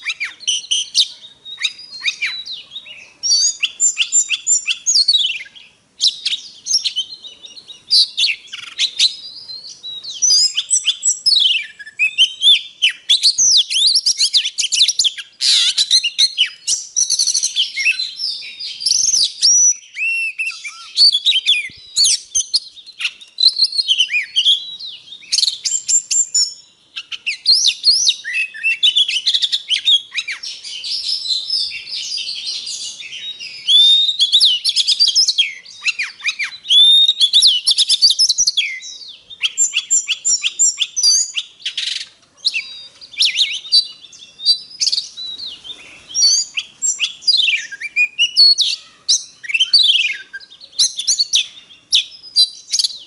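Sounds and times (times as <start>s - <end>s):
bird singing whistles and trills: 0.0s - 53.0s.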